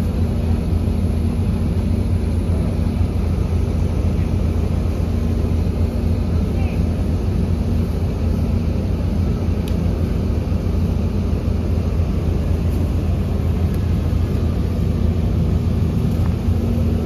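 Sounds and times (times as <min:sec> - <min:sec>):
crane diesel engine running: 0:00.0 - 0:17.0.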